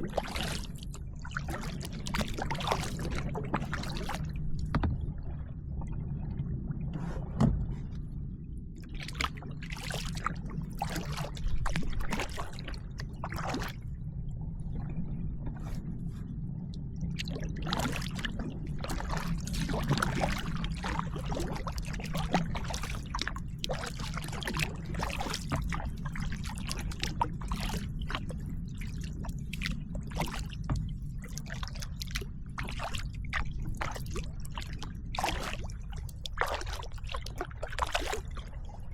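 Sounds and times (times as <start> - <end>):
paddle splashing in water: 0.0 - 5.5, 8.9 - 13.9, 17.2 - 38.9
steady low rumble: 0.0 - 38.9.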